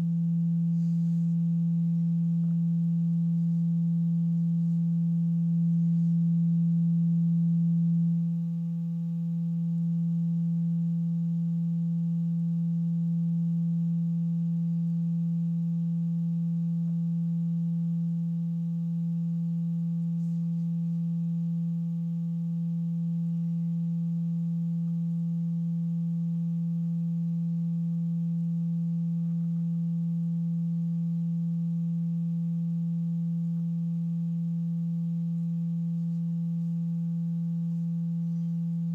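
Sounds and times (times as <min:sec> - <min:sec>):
low sine-wave tone: 0:00.0 - 0:38.9.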